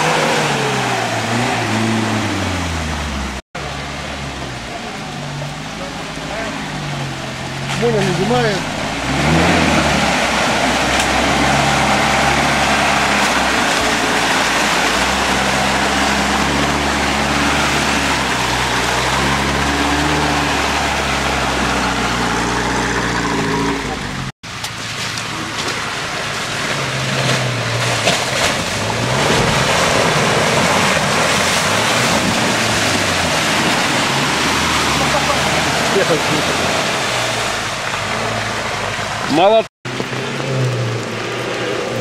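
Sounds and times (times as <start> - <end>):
churned mud and water: 0.0 - 42.0
off-road engines revving: 0.0 - 42.0.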